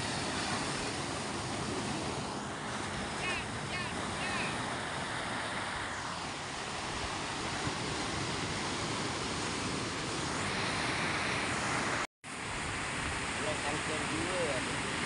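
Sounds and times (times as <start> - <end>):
waves and surf: 0.0 - 15.0.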